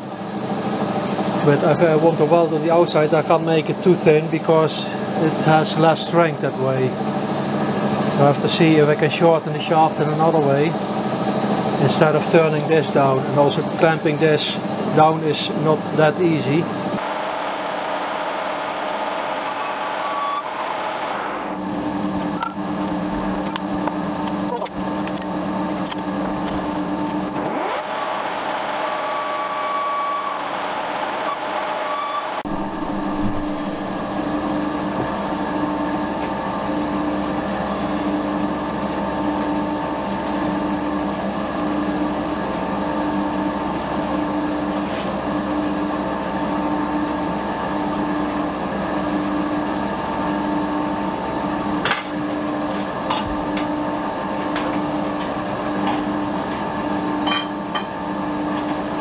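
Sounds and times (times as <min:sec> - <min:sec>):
machine motor humming: 0:00.0 - 0:59.0.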